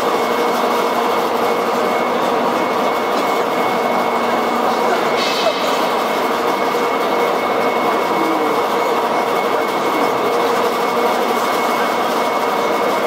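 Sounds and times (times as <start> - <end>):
faint machine whines: 0.0 - 13.0
workshop machinery drone: 0.0 - 13.0.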